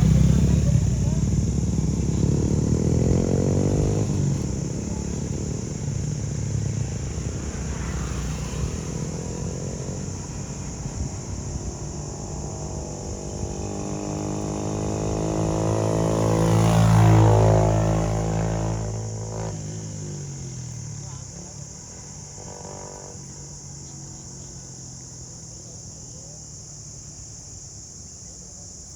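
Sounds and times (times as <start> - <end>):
vehicle engine passing by: 0.0 - 25.7.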